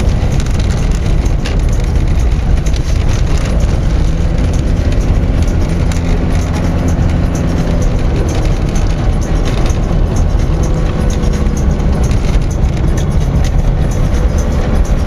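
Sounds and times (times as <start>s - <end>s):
small clicks and rattles: 0.0s - 15.0s
tyres rumbling on gravel: 0.0s - 15.0s.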